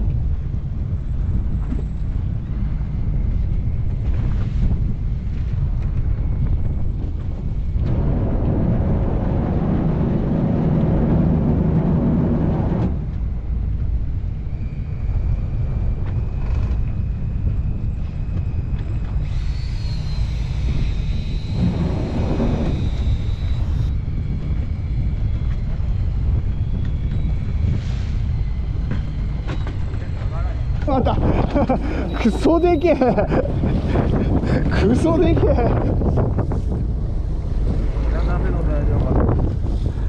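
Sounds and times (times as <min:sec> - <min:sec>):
boat engine rumbling: 0:00.0 - 0:40.0
high steady whine: 0:00.0 - 0:40.0
wind on microphone: 0:00.0 - 0:40.0.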